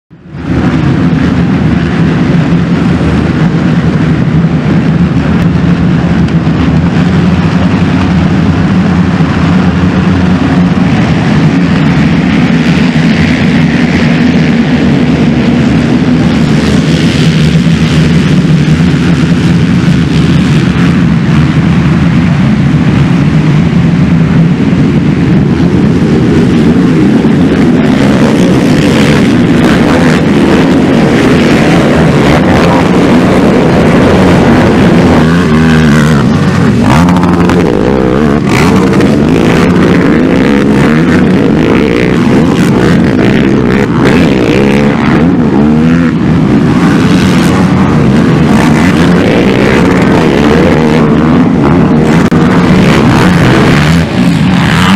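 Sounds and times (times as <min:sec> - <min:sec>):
racing quad engines revving: 0:00.1 - 0:54.9.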